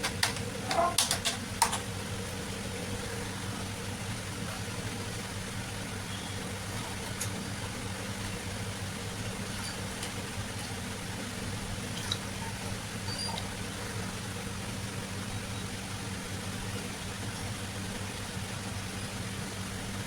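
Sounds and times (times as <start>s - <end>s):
constant hiss: 0.0s - 20.0s.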